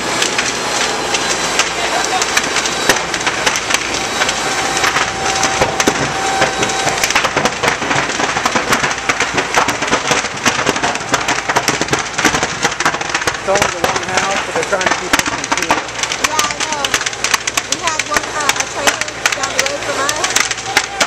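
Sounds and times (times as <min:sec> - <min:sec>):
burning timbers crackling and popping: 0:00.0 - 0:21.0
roar of flames: 0:00.0 - 0:21.0.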